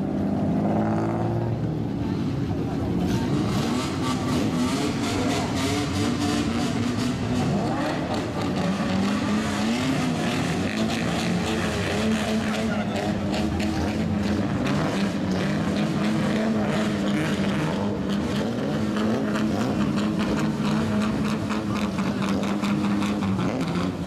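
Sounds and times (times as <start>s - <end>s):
car exhausts rumbling low: 0.0s - 24.0s.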